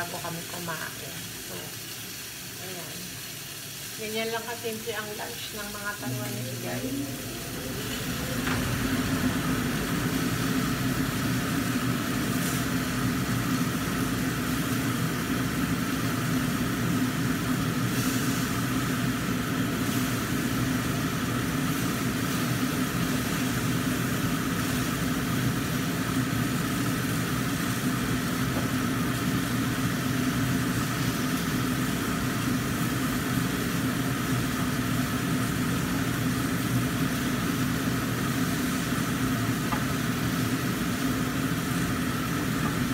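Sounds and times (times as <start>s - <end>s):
exhaust fan humming: 0.0s - 42.9s
fish frying in a wok: 0.0s - 42.9s.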